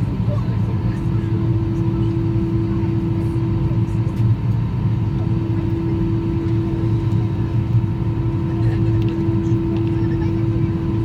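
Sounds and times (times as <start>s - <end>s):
jet engines idling: 0.0s - 11.0s.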